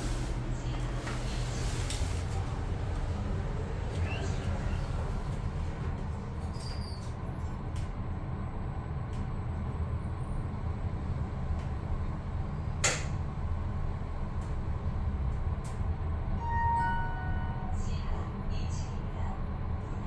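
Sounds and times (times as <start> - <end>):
elevator low rumble: 0.0 - 20.0.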